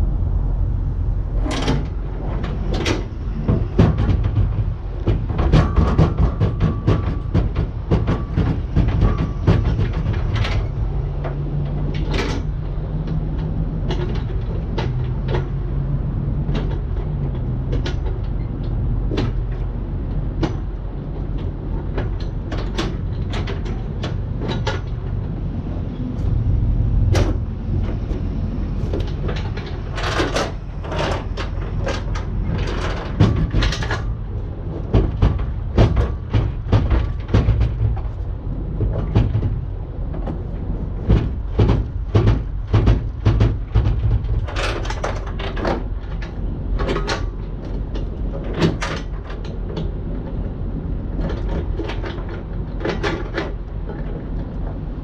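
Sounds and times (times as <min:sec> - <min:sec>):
steady low rumble: 0:00.0 - 0:55.0
metal clicks and clanks: 0:01.4 - 0:55.0.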